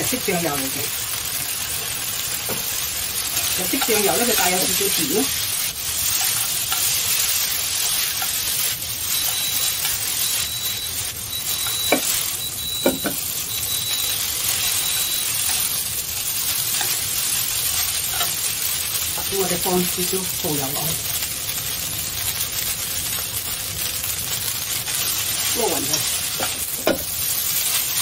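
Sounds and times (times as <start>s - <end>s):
noodles sizzling in a wok: 0.0s - 28.0s.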